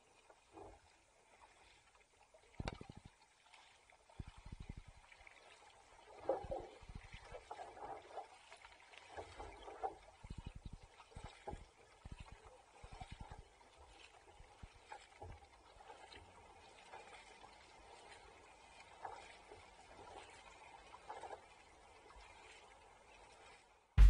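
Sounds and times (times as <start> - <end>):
water splashing and sloshing: 0.0 - 24.0.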